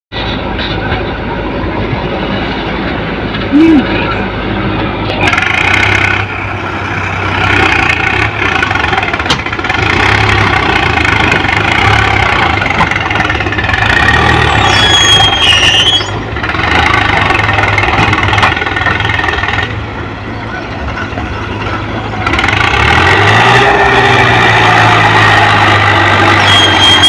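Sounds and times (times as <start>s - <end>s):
tractor diesel engine running: 0.1s - 27.0s.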